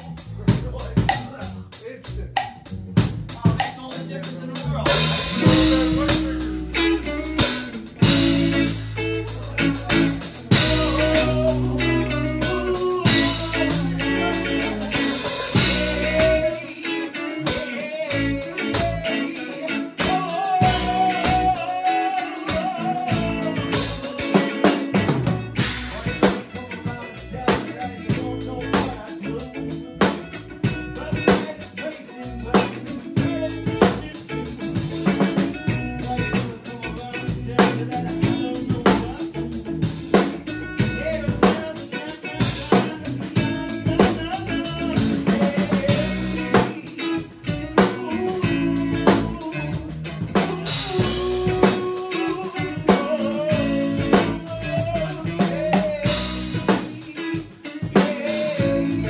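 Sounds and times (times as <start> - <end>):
bass guitar: 0.0 - 59.0
drum kit with cymbals: 0.0 - 59.0
electric guitar: 2.3 - 59.0.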